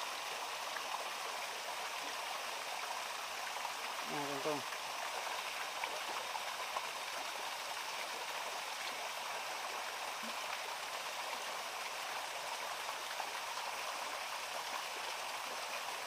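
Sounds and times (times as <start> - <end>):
forest stream rushing: 0.0 - 16.0.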